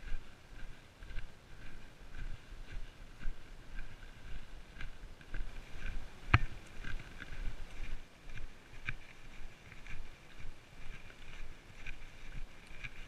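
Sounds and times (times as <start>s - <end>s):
footsteps on sandy path: 0.0s - 13.0s.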